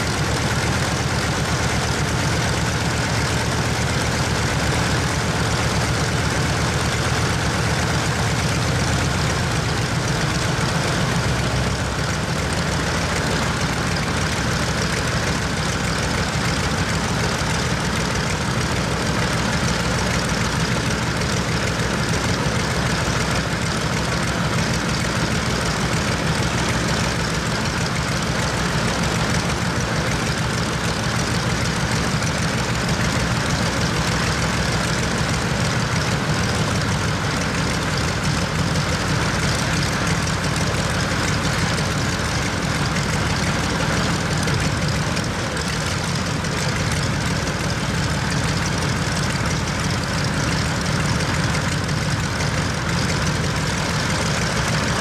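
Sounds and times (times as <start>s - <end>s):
radial aircraft engine idling: 0.0s - 55.0s.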